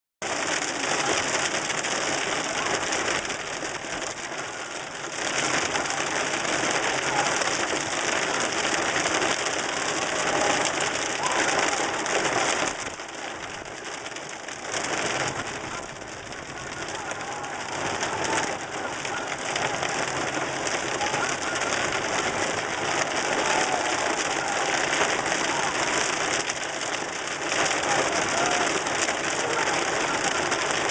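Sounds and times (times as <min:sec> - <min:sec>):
rain on car windshield and roof: 0:00.2 - 0:30.9.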